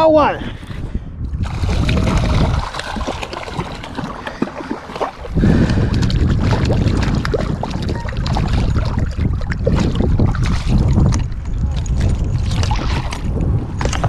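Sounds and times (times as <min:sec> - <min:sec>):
wind buffeting microphone: 0:00.0 - 0:14.0
water splashing against kayak hull: 0:01.4 - 0:14.0.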